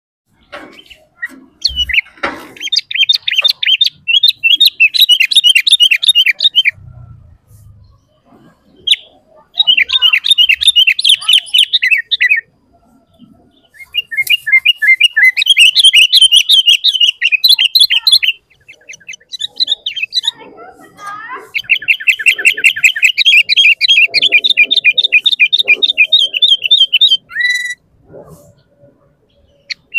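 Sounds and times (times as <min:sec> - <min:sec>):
bird chirping rapidly: 0:00.3 - 0:07.0, 0:07.6 - 0:29.9.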